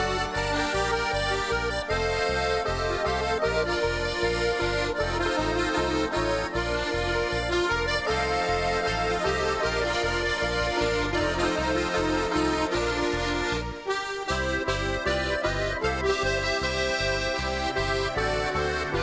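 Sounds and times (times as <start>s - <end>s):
accordion folk music: 0.0s - 19.0s.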